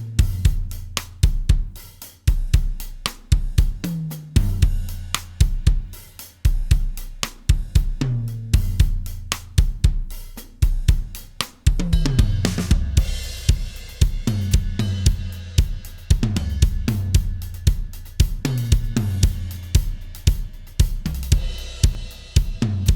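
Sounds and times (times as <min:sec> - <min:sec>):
drum kit playing a groove: 0:00.0 - 0:22.9.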